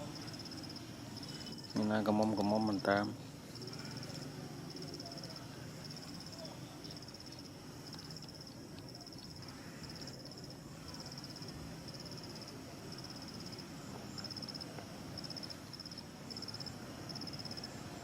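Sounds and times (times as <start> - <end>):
insects chirping in pulsing trill: 0.0 - 18.0.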